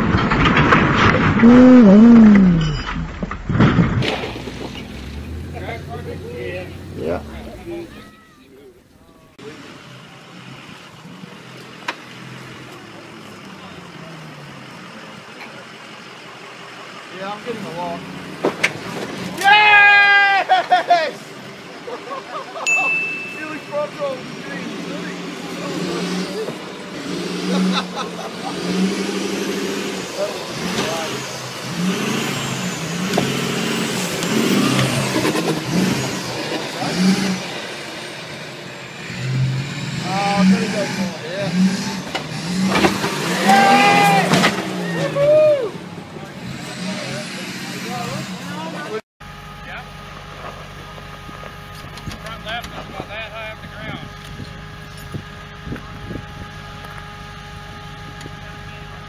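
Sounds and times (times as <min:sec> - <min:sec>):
pickup engine driving: 0:00.0 - 0:59.0.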